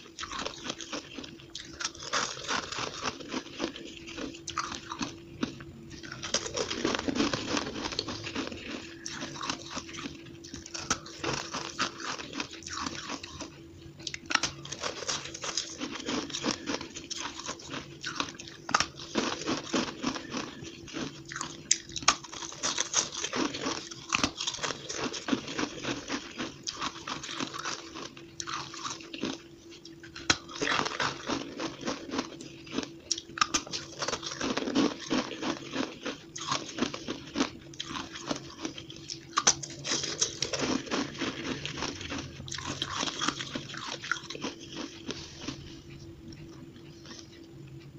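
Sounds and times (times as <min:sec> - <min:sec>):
crunching and chewing ice: 0:00.0 - 0:47.5
faint steady hum: 0:00.0 - 0:47.9.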